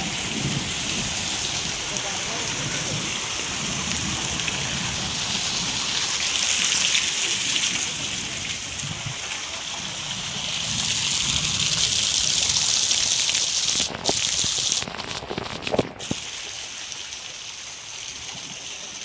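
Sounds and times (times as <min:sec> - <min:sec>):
rain hissing: 0:00.0 - 0:19.0
water gushing: 0:00.0 - 0:19.0.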